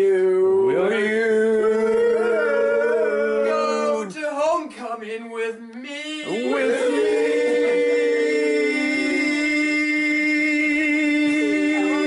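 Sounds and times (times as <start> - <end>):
voices singing in harmony: 0.0 - 4.1, 5.9 - 12.0.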